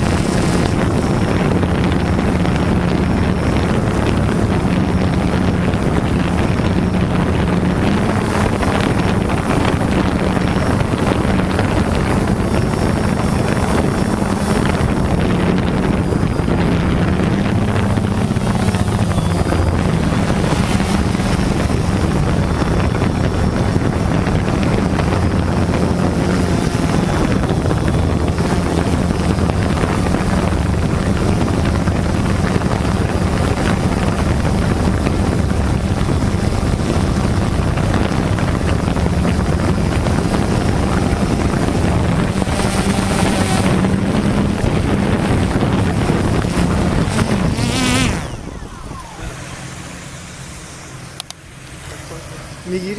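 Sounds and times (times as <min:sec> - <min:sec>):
drone propellers whirring: 0:00.0 - 0:52.9.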